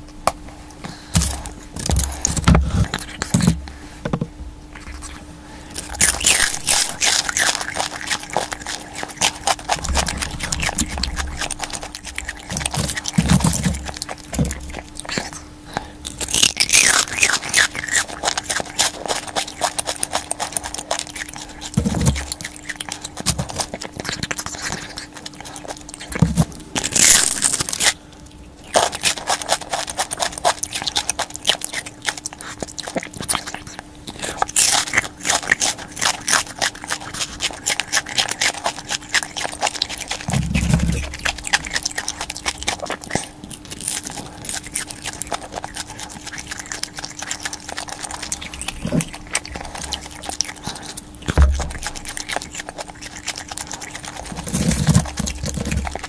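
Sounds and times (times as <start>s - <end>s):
chewing crispy chicken skin: 0.9s - 3.6s, 4.7s - 56.0s.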